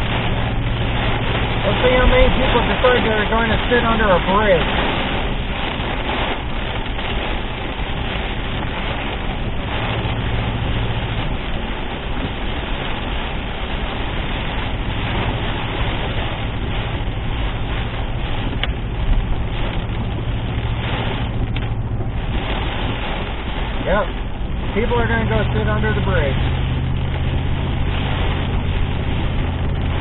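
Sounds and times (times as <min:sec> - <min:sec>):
heavy rain drumming on a car: 0:00.0 - 0:30.0.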